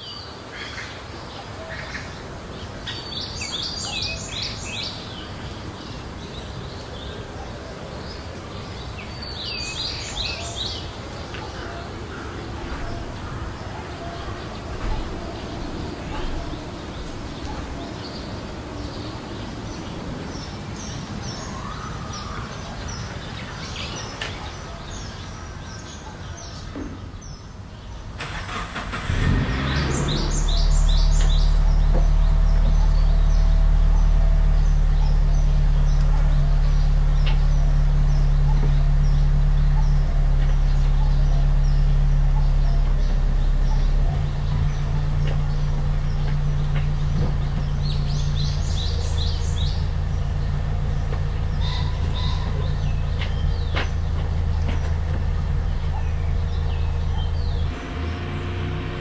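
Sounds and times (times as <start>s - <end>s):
birds chirping: 0.0s - 59.0s
vehicle engine starting and idling: 0.6s - 59.0s.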